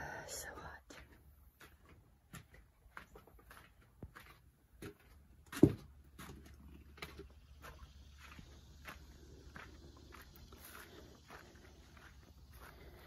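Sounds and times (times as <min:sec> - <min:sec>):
footsteps: 0:00.9 - 0:13.0.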